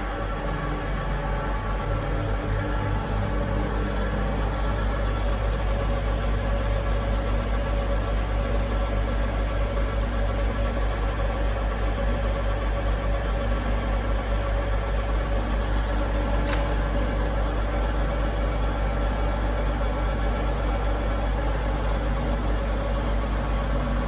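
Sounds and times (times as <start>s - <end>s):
lathe running: 0.0s - 24.0s.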